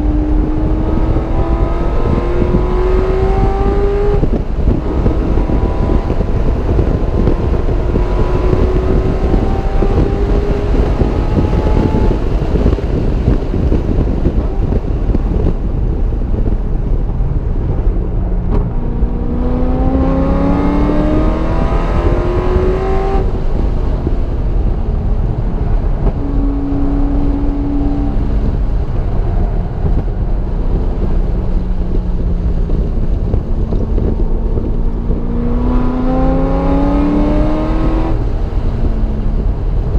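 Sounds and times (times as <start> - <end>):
car engine accelerating: 0.0 - 39.9
wind and road noise: 0.0 - 39.9.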